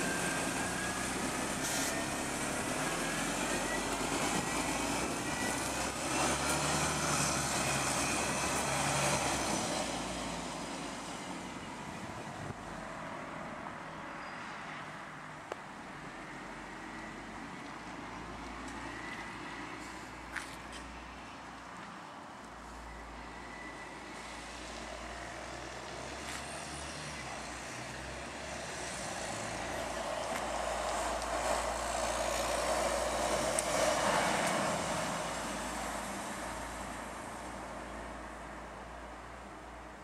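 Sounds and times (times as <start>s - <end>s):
bus engine pulling away: 0.0s - 15.0s, 22.6s - 40.0s.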